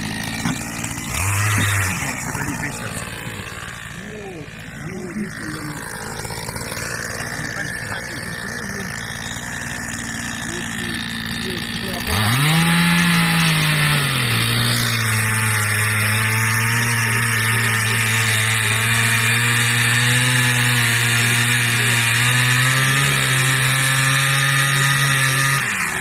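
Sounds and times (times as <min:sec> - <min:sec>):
chainsaw cutting ice: 0:00.0 - 0:26.0.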